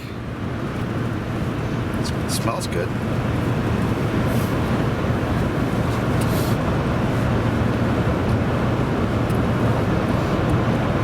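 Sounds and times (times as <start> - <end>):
road and engine drone in cabin: 0.0 - 11.0.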